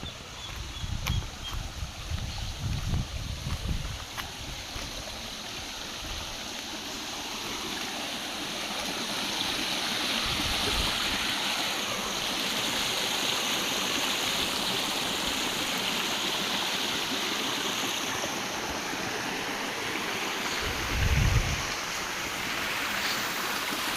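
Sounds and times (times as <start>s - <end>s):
rushing stream water: 0.0s - 23.9s.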